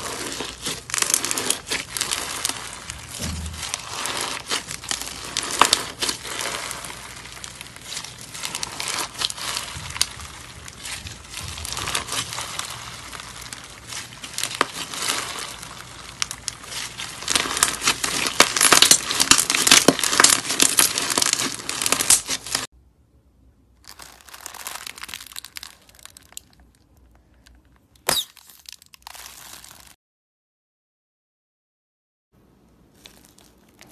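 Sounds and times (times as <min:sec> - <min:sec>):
crunchy slime beads crackling: 0:00.0 - 0:22.7, 0:23.8 - 0:30.0, 0:32.8 - 0:33.9
slime squishing: 0:00.0 - 0:22.7, 0:23.8 - 0:30.0, 0:32.8 - 0:33.9.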